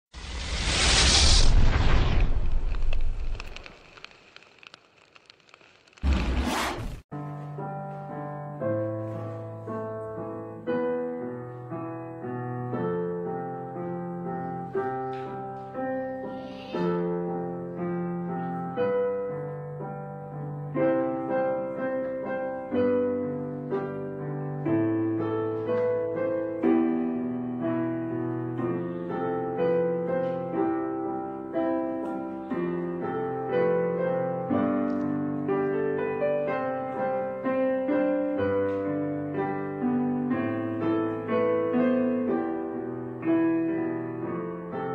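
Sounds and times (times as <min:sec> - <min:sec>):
gentle piano music: 0:07.1 - 0:44.9.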